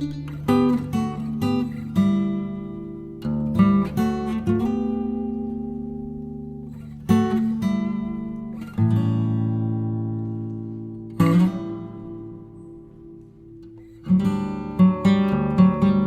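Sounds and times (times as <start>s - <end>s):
acoustic guitar strumming and plucking: 0.0s - 16.0s.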